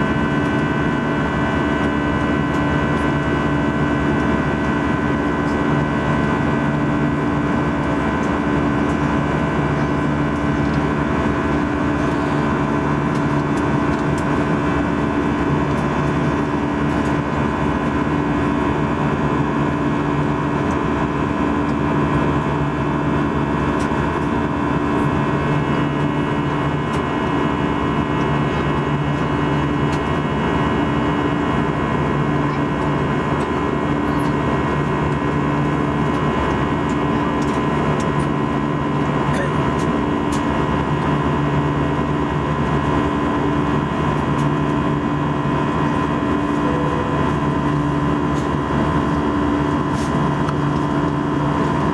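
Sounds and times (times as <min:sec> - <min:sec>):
jet engine drone in cabin: 0:00.0 - 0:51.9.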